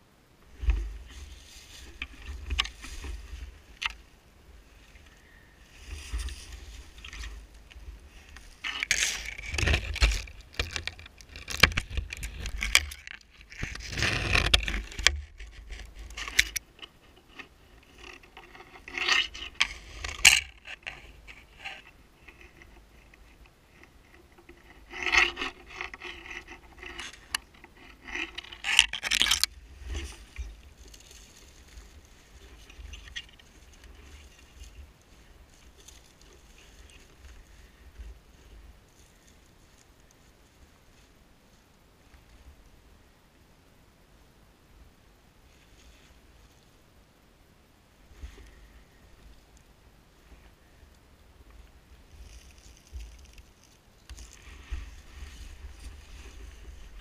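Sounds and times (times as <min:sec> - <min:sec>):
branches rustling and scraping: 0:00.0 - 0:43.0, 0:45.4 - 0:47.2, 0:47.9 - 0:57.0.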